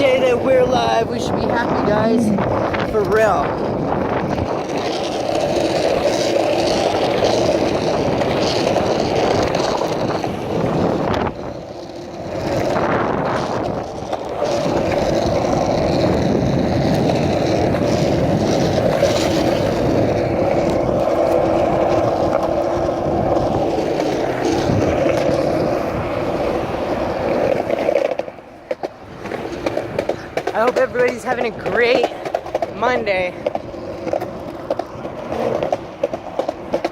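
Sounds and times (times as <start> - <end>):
skateboard wheels rolling on pavement: 0.0 - 36.9.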